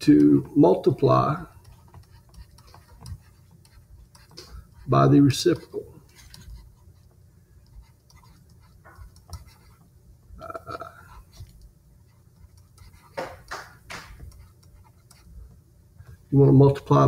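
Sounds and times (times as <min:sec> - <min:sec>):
stylus scratching on tablet: 0:00.0 - 0:16.1.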